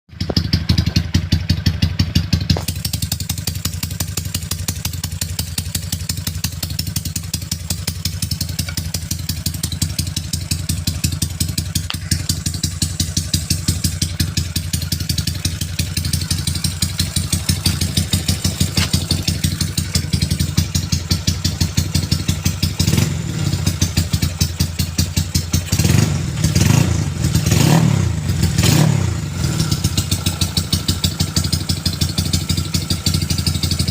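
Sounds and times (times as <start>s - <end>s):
motorcycle idling: 0.1s - 33.9s
motorcycle throttle blips: 0.2s - 33.9s.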